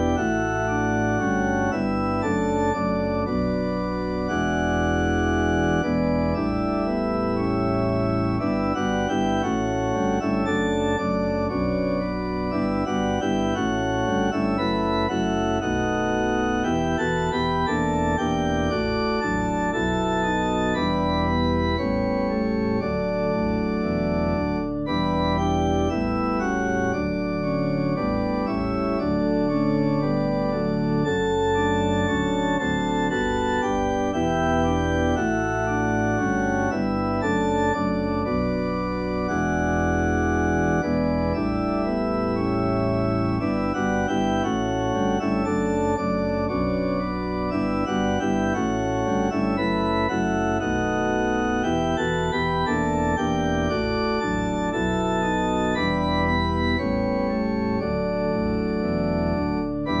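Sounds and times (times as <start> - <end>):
organ playing hymn chords: 0.0 - 60.0.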